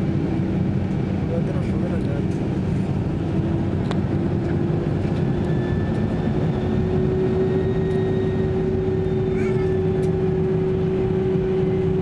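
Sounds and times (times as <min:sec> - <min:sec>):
jet engines humming: 0:00.0 - 0:12.0.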